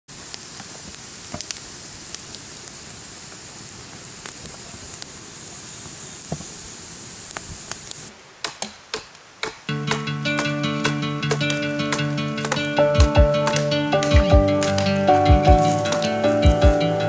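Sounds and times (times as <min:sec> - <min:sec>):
campfire crackling and hissing: 0:00.1 - 0:17.0.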